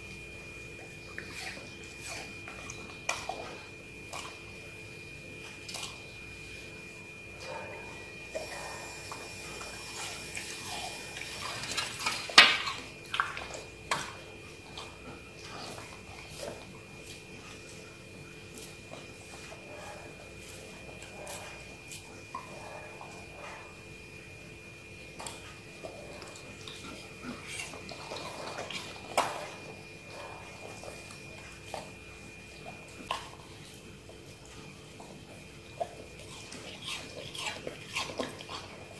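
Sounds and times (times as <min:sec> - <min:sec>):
dog chewing and slurping: 0:00.0 - 0:38.9.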